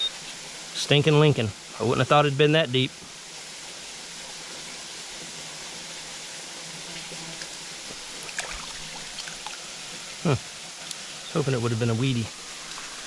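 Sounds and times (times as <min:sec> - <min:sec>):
flowing creek water: 0:00.0 - 0:13.0.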